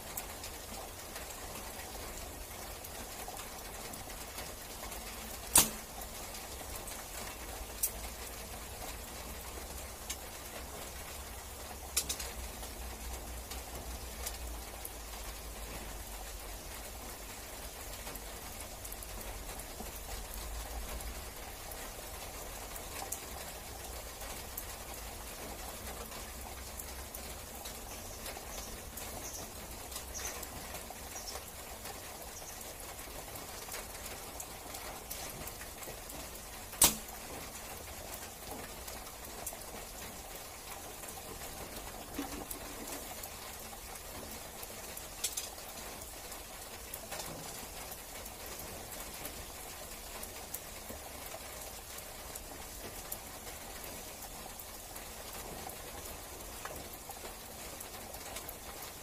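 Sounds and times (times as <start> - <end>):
rain hiss and patter: 0.0 - 59.0.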